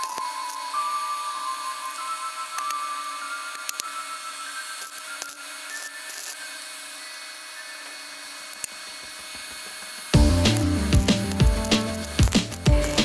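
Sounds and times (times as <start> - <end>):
arc welding crackling hiss: 0.0 - 13.0.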